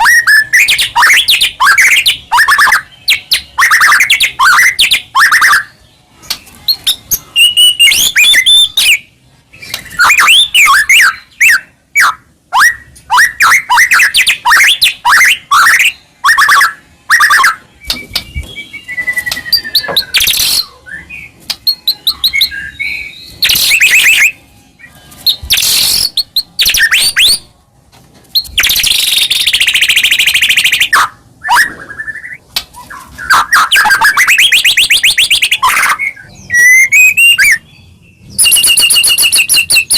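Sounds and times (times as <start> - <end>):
songbird singing whistled phrases: 0.0 - 27.5, 28.3 - 39.9.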